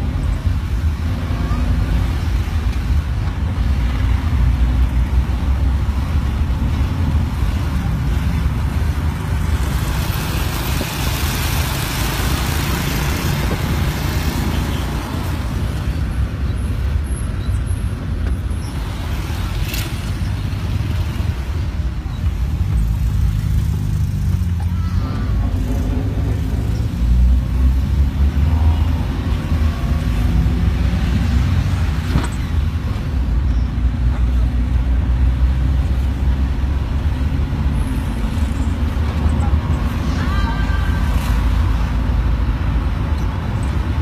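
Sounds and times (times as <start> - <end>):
car engine and road rumble: 0.0 - 44.0
tyres and passing traffic hiss: 0.0 - 44.0.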